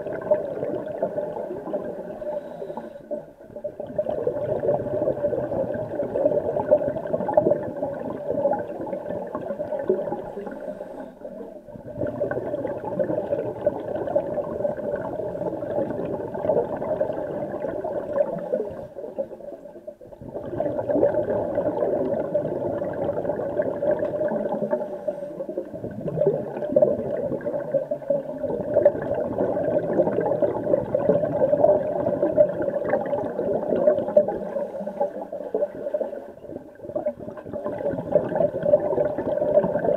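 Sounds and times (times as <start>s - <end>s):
muffled underwater rushing gurgle: 0.0s - 39.9s.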